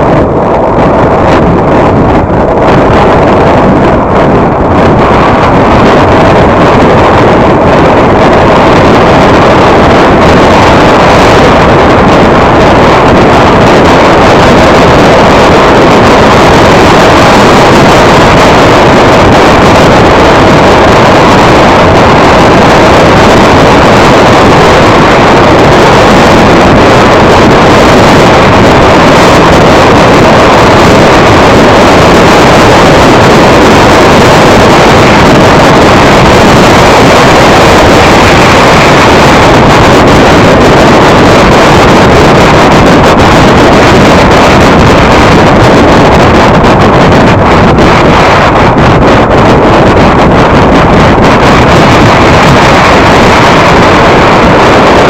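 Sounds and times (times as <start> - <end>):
road and wind noise inside car: 0.0 - 55.0.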